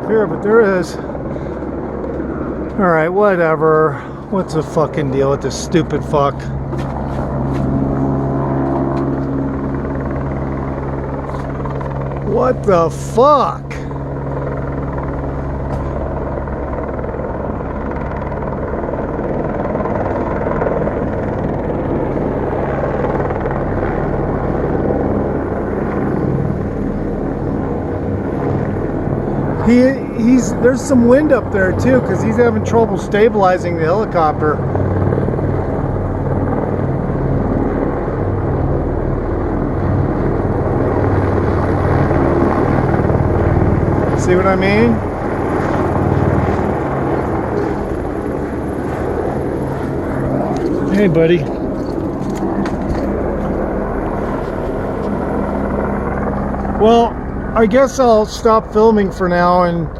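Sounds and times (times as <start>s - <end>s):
helicopter rotor beat: 0.0s - 59.9s
turbine drone: 0.0s - 59.9s.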